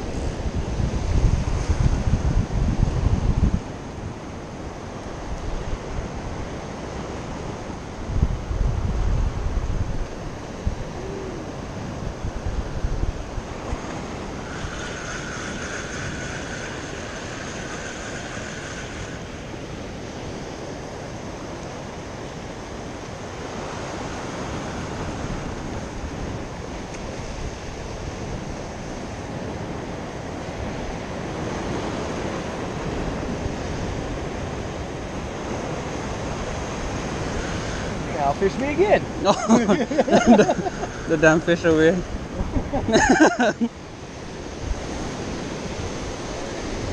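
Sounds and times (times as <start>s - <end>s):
wind buffeting microphone: 0.0s - 46.9s
faint high whine: 7.4s - 46.9s.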